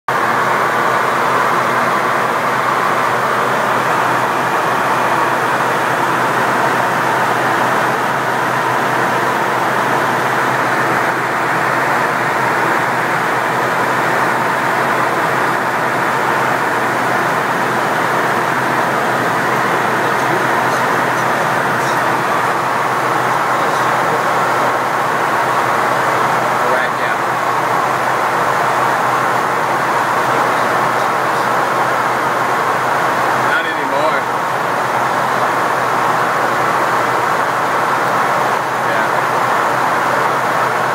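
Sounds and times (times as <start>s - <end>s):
airflow and engine noise: 0.1s - 40.9s.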